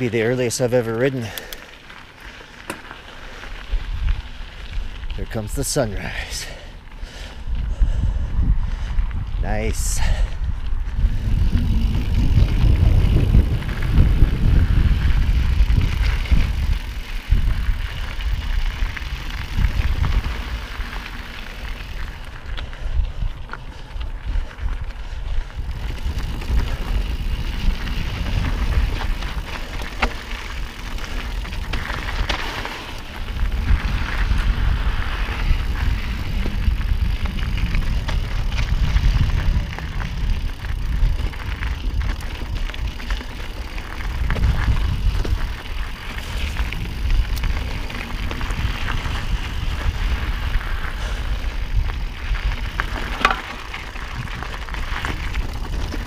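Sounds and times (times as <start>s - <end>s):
bike clicking and rattling: 0.0s - 56.0s
bike tyres crunching on gravel: 0.0s - 56.0s
wind rumble on microphone: 3.3s - 56.0s.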